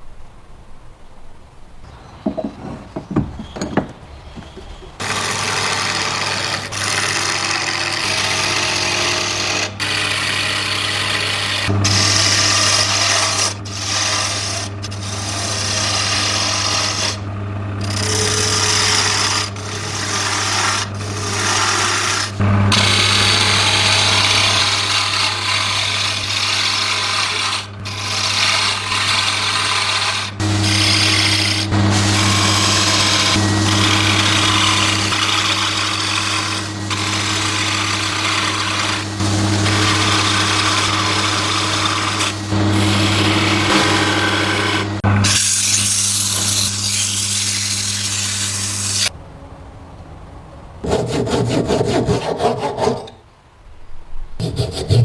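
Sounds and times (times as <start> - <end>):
power tool scraping metal: 2.2 - 49.2.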